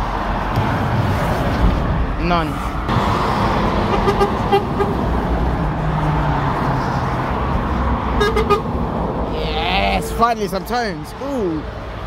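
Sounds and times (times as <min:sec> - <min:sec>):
heavy traffic rushing: 0:00.0 - 0:12.0.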